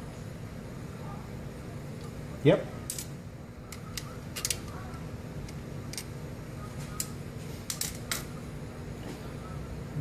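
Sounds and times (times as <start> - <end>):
low shop hum: 0.0 - 10.0.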